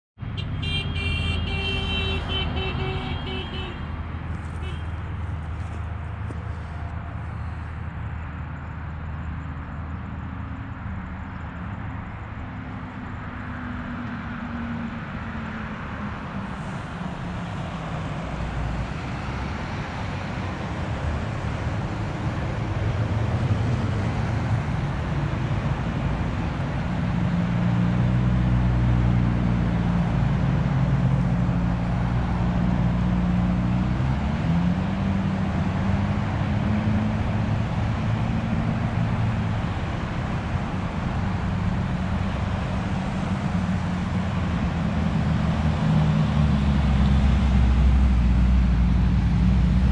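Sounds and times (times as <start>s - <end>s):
car engines and tyres passing: 0.2s - 49.9s.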